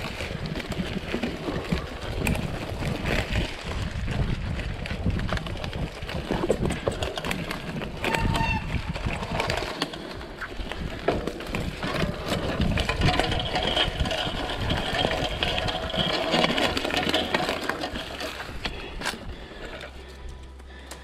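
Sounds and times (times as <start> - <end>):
wind noise on microphone: 0.0 - 19.7
bike rattling over bumps: 0.0 - 21.0
bike tyres on dirt: 0.0 - 21.0.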